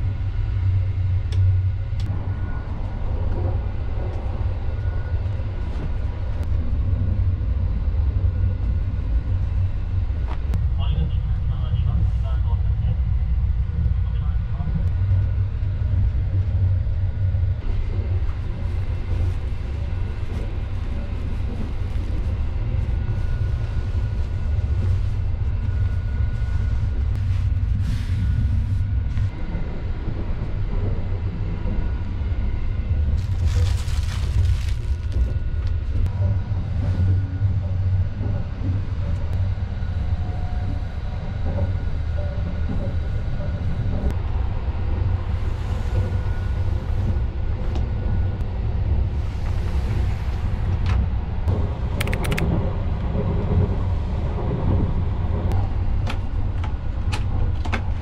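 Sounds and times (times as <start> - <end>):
train carriage rumbling: 0.0 - 58.0.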